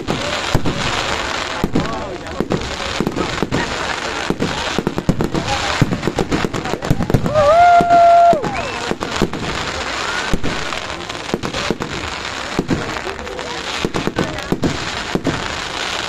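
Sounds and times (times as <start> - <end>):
crowd murmur: 0.0 - 16.0
fireworks bangs and pops: 0.0 - 16.0.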